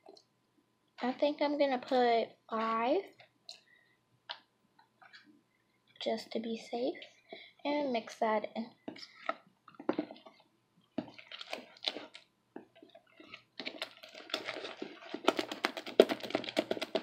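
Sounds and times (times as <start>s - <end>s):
slime stirred with a spoon: 1.8s - 7.5s, 8.7s - 17.0s.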